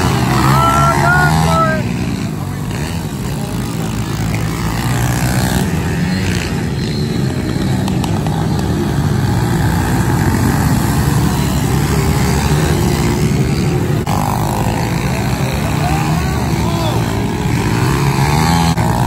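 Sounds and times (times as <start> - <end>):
pit bike engines racing: 0.0 - 19.0.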